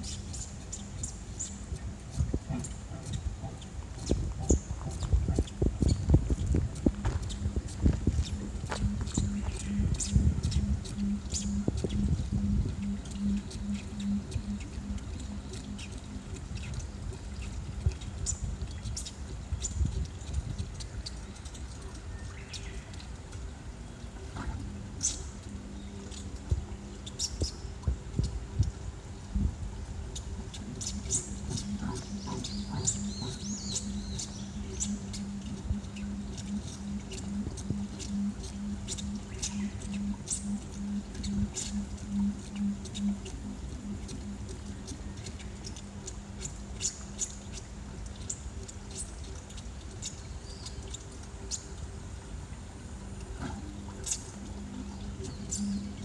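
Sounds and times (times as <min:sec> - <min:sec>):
low hum: 0:00.0 - 0:18.7, 0:21.9 - 0:47.8, 0:52.0 - 0:56.0
small birds chirping: 0:00.0 - 0:56.0.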